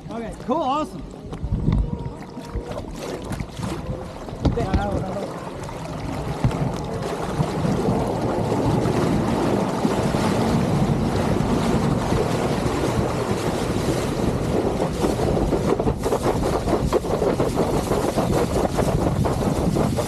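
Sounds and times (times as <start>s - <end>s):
water rushing and splashing: 0.0s - 20.0s
wind buffeting microphone: 0.0s - 20.0s.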